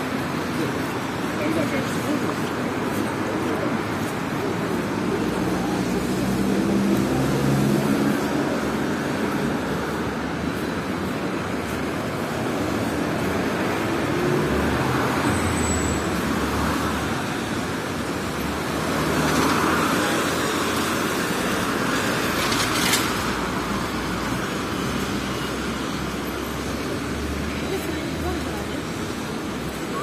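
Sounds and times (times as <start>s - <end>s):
cars and trolleybus passing: 0.0s - 30.0s
tyres hissing on wet road: 0.0s - 30.0s.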